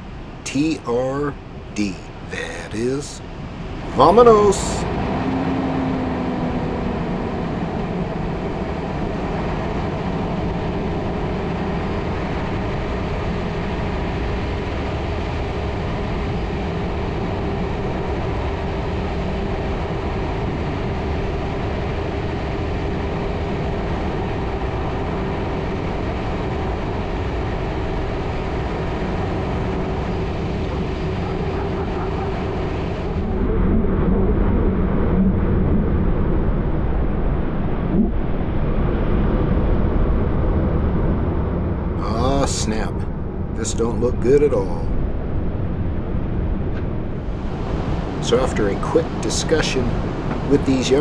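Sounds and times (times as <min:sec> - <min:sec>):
engine drone: 0:00.0 - 0:51.0.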